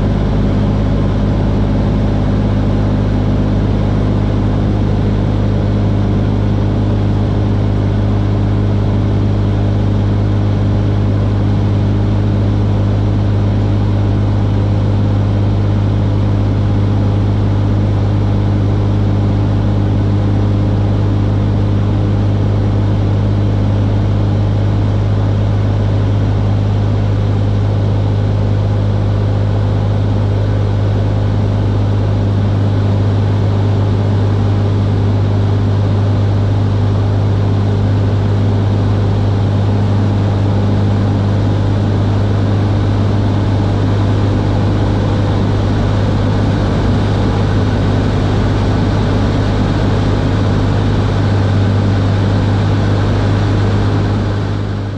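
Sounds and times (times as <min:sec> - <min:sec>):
light aircraft engine drone: 0:00.0 - 0:54.9.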